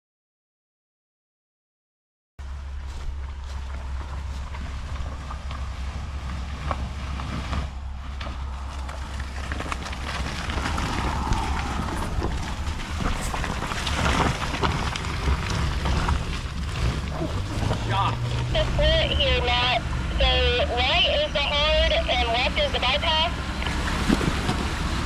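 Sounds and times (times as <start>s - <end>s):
off-road vehicle engine rumble: 2.4s - 25.0s.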